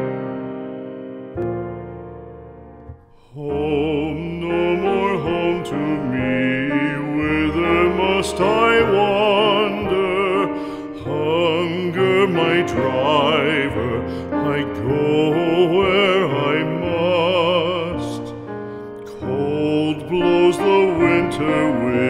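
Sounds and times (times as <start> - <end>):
piano accompaniment: 0.0 - 22.0
classical voice singing with vibrato: 3.1 - 22.0.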